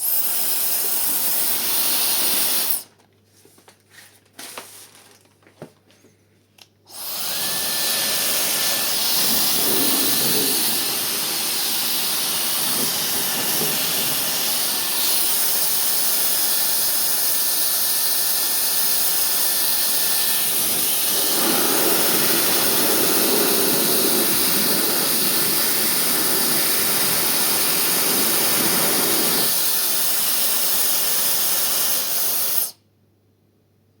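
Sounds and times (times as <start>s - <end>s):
hair dryer blowing air: 0.0s - 2.8s, 6.9s - 32.8s.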